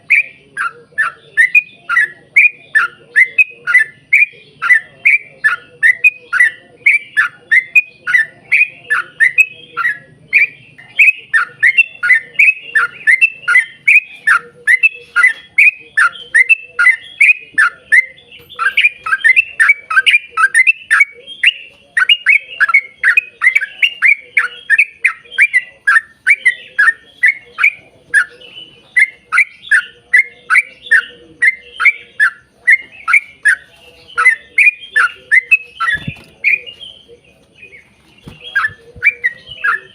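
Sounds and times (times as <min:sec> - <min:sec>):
bird bubbly chattering song: 0:00.0 - 0:39.9.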